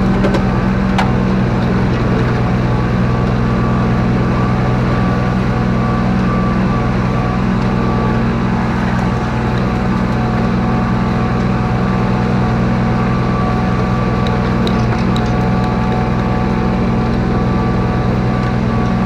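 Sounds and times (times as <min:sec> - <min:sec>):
vehicle engine under load: 0:00.0 - 0:19.0.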